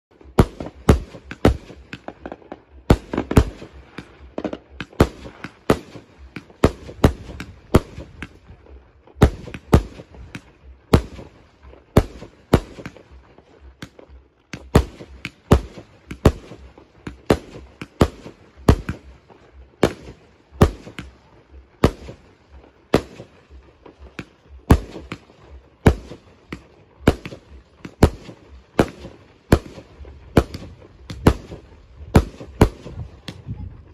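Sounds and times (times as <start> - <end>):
fireworks bursting bangs: 0.1 - 33.9.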